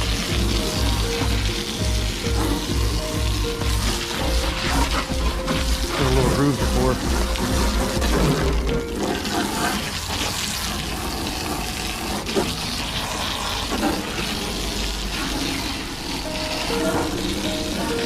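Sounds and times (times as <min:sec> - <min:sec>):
hose water splashing on metal: 0:00.0 - 0:18.0.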